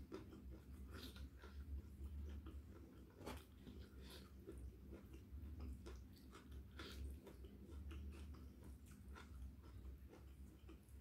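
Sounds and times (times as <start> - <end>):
mouth chewing food: 0.0 - 11.0
steady low hum: 0.0 - 11.0.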